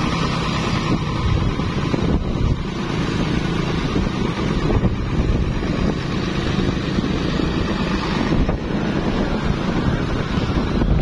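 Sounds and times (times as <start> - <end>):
motorcycle engines running: 0.0 - 11.0
wind buffeting microphone: 0.0 - 11.0.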